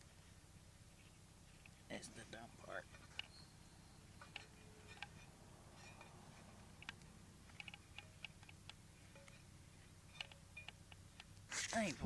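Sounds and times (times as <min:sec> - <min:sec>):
light clicks of hands handling wire: 0:00.9 - 0:01.9, 0:02.8 - 0:11.8.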